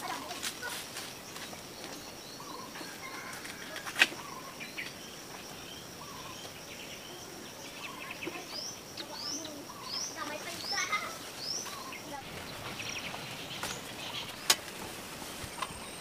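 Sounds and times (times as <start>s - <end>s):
birds chirping: 0.0s - 16.0s
high insect drone: 0.0s - 16.0s.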